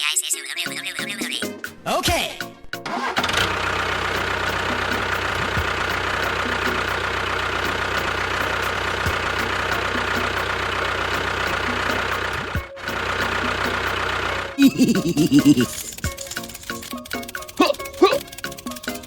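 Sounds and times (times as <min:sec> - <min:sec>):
small motor rattling: 0:03.0 - 0:19.0.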